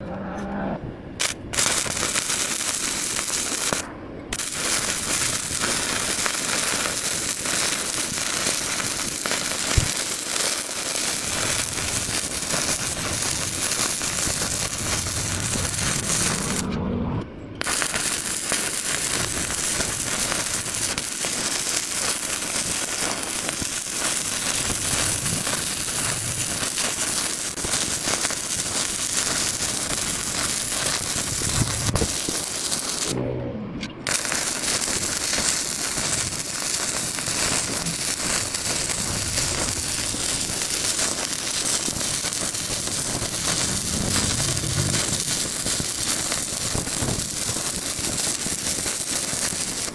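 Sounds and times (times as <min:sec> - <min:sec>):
welding arc crackling: 0:01.2 - 0:16.7, 0:17.6 - 0:33.2, 0:34.0 - 0:49.9.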